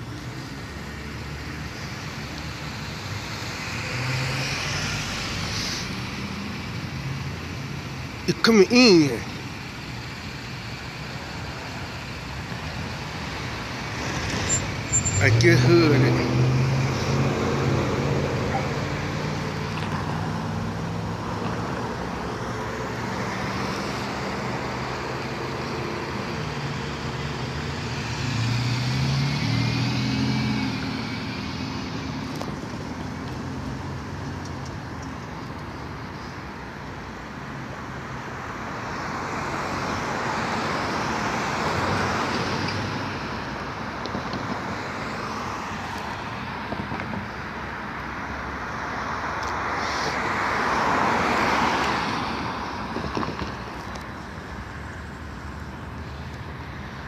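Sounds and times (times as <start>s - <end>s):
cars driving past: 0.0s - 57.0s.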